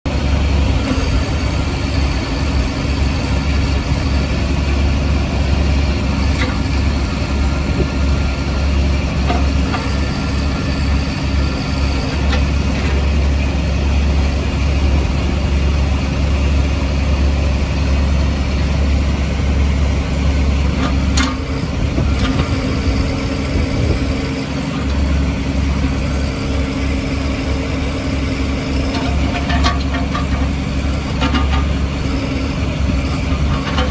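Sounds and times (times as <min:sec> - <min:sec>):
tractor diesel engine idling: 0:00.1 - 0:33.9.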